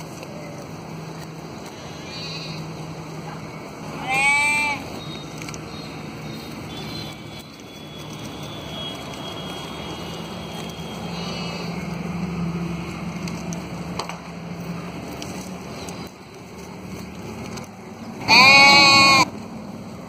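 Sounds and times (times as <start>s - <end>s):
sheep cropping plants: 0.0s - 19.4s
leaves rustling: 0.0s - 20.0s.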